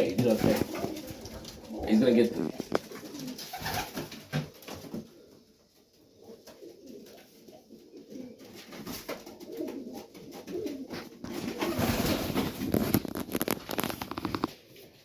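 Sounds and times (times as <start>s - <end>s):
pigeons cooing: 0.0s - 14.9s.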